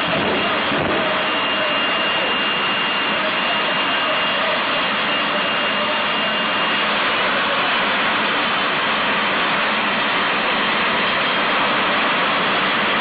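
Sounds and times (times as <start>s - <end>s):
high whine: 0.0s - 13.0s
jet engines rushing: 0.0s - 13.0s.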